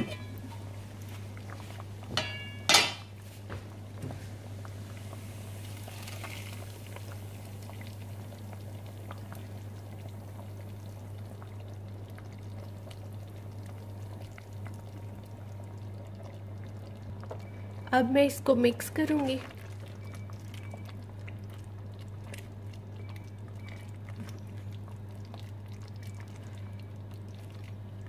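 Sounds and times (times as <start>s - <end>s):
pot boiling: 0.0s - 28.0s.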